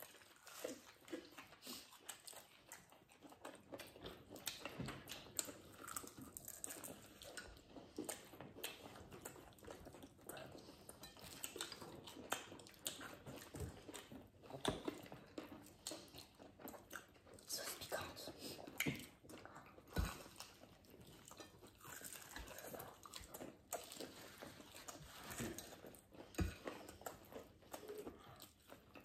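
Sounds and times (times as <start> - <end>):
crunchy chewing of fried chicken: 0.0 - 29.0.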